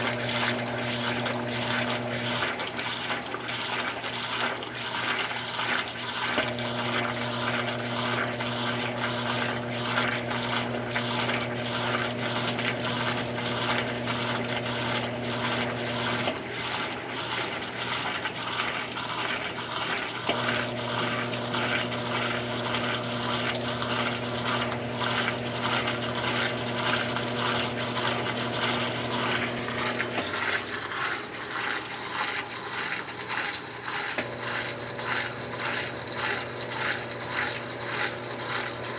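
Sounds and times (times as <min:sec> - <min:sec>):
motor hum: 0:00.0 - 0:38.9
water rushing and splashing: 0:00.0 - 0:38.9.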